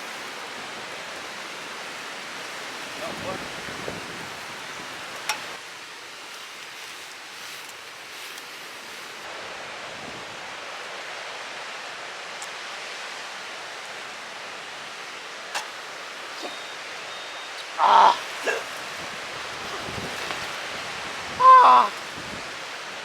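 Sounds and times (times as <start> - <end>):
surf on a beach: 0.0 - 23.0.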